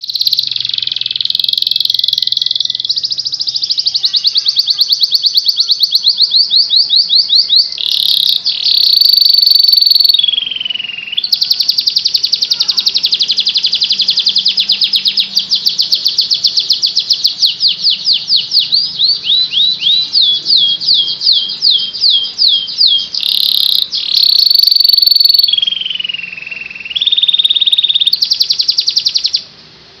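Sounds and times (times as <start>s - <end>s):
canary singing trills: 0.0s - 29.6s.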